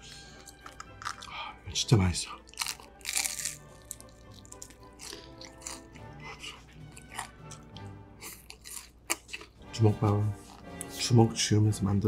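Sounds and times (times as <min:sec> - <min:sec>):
close chewing mouth noises: 0:00.0 - 0:01.6, 0:02.3 - 0:11.0.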